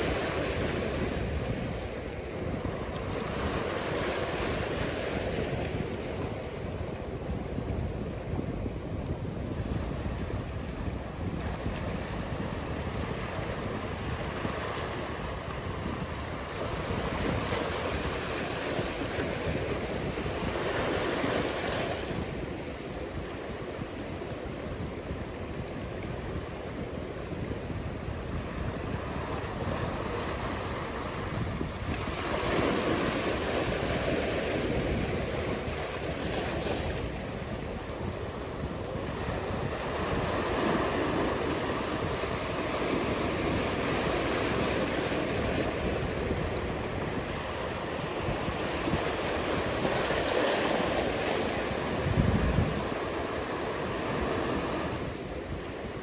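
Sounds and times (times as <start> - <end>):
waves breaking: 0.0 - 56.0
wind buffeting microphone: 0.0 - 56.0.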